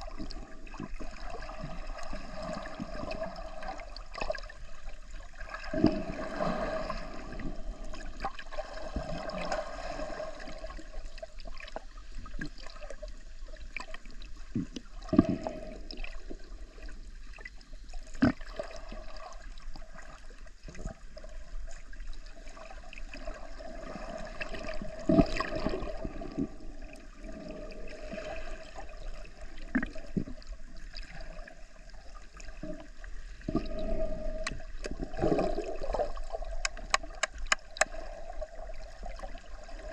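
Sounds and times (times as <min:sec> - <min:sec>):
muffled underwater sloshing and bubbling: 0:00.0 - 0:39.9.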